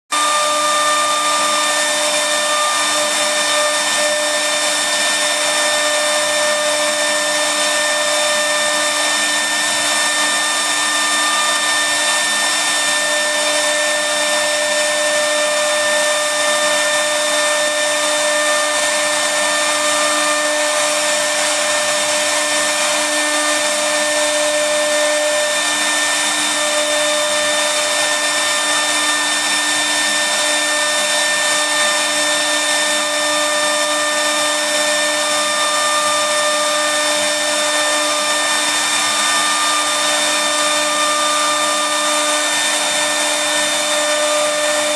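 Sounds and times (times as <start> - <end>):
cutter hissing through wood: 0.1 - 44.9
router motor whine: 0.1 - 44.9.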